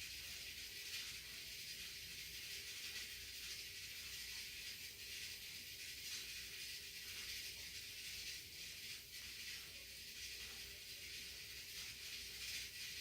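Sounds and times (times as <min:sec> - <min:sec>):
rice cooker steam hiss: 0:00.0 - 0:13.0.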